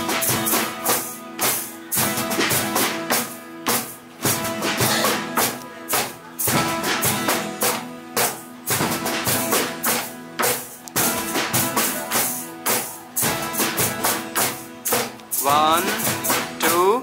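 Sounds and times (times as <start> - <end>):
acoustic guitars strumming: 0.0 - 17.0.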